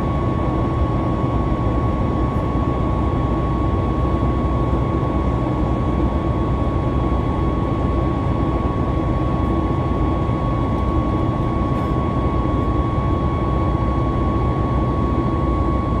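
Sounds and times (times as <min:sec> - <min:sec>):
high engine whine: 0:00.0 - 0:16.0
jet engines rumbling in cabin: 0:00.0 - 0:16.0.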